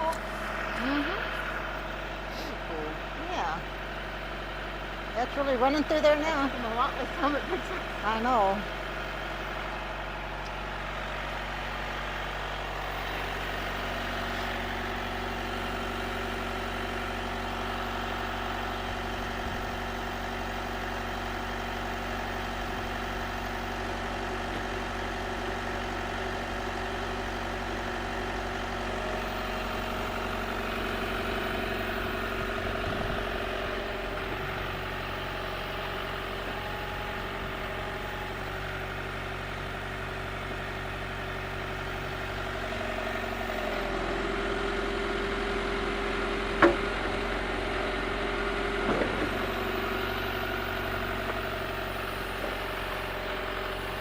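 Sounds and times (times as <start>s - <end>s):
backhoe engine idling: 0.0s - 54.0s.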